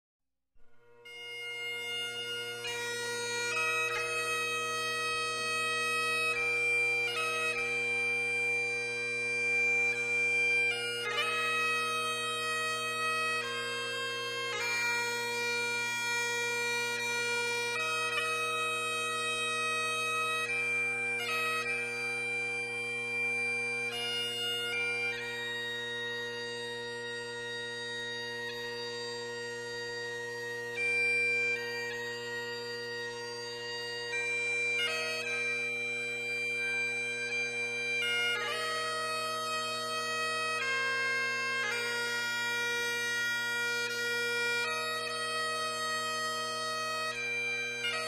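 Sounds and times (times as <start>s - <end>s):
bagpipes playing slow tune: 0.7s - 48.0s.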